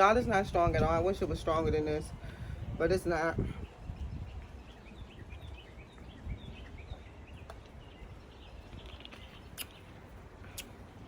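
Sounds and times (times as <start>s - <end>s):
birds chirping: 0.0s - 11.0s
low outdoor background: 0.0s - 11.0s.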